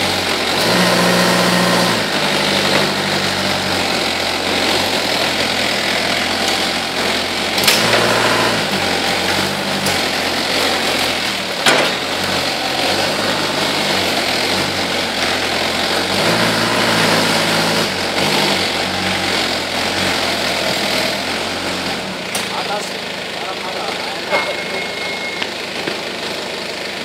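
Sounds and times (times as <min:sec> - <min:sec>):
forklift engine running: 0:00.0 - 0:27.0.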